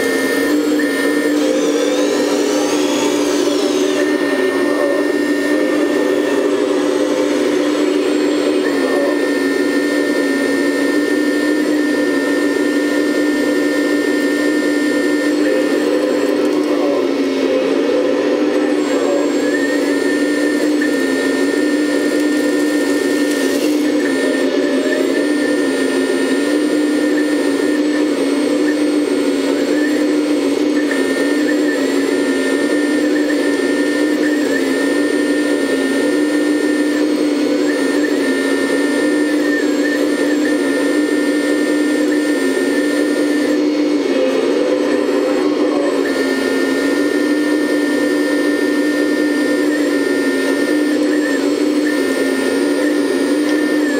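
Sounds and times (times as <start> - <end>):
high pump whine: 0.0 - 53.9
hydraulic pump motor hum: 0.0 - 53.9.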